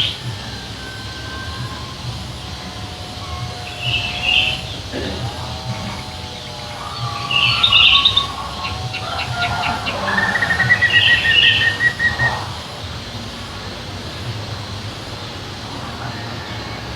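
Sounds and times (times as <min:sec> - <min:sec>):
songbird singing: 0:00.0 - 0:16.9
steady low rumble: 0:00.0 - 0:16.9.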